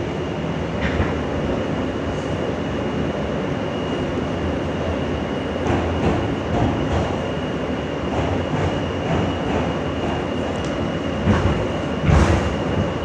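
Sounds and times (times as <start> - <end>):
subway wheels rumbling on track: 0.0 - 13.0.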